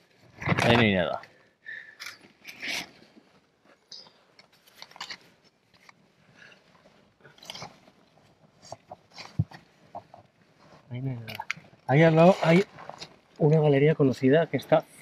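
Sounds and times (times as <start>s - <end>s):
gravel crunching and scraping: 2.0s - 14.6s.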